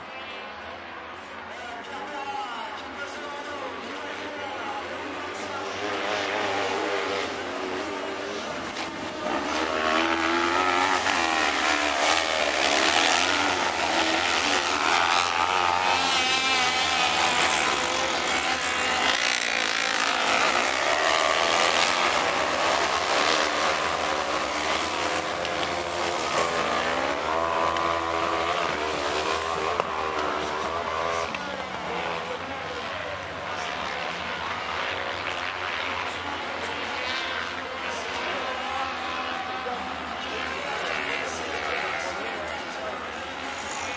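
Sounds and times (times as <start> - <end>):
buggy engines revving: 3.1 - 43.9.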